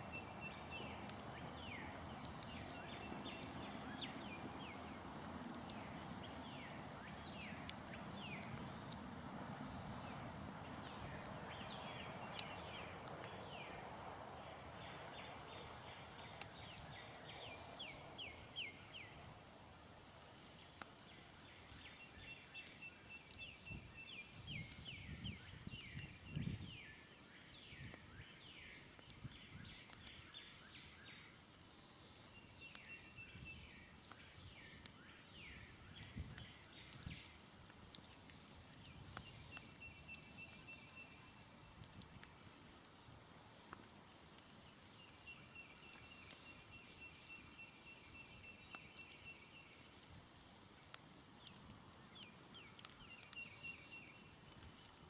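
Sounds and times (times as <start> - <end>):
songbird singing: 0.0 - 19.3, 20.0 - 55.0
campfire crackling and popping: 0.0 - 55.0.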